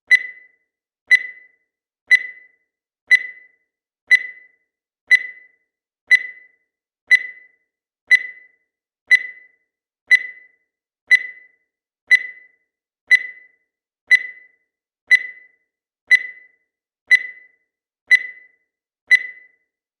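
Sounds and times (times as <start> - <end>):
digital timer beeping: 0.1 - 19.8.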